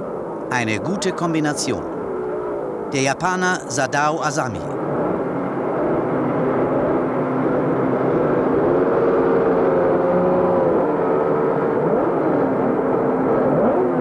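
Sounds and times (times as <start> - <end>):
racing motorcycle engines: 0.1 - 14.0.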